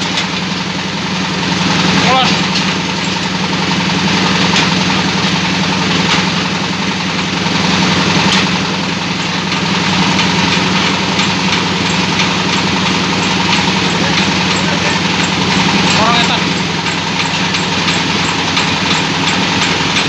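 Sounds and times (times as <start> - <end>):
meat grinder motor drone: 0.0 - 20.0.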